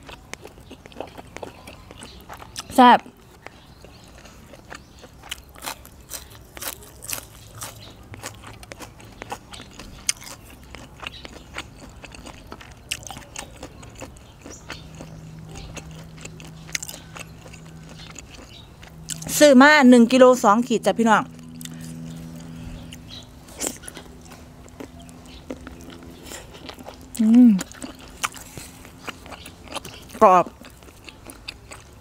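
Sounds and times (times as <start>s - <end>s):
chewing crisp raw vegetables: 0.0s - 32.0s.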